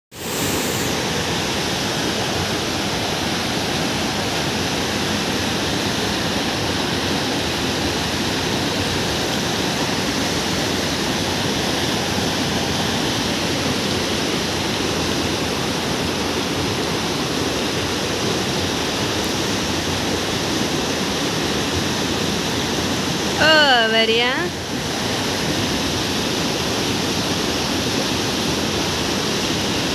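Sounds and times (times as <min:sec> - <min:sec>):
stream water rushing: 0:00.1 - 0:29.9.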